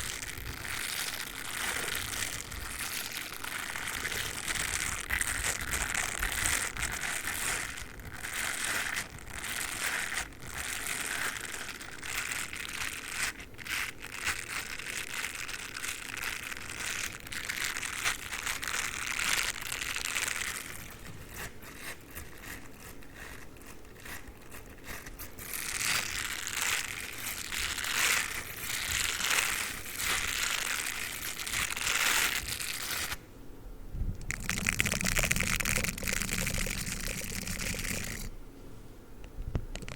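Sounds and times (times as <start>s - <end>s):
toothbrush scratching and rustling: 0.0s - 33.2s, 34.2s - 38.3s.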